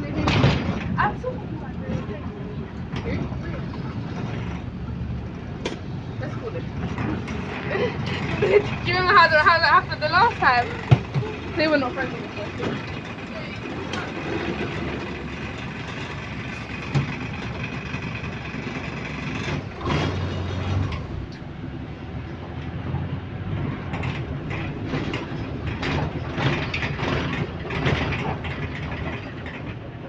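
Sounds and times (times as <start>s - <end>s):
bus body rattling: 0.0s - 30.0s
bus engine rumble: 0.0s - 30.0s.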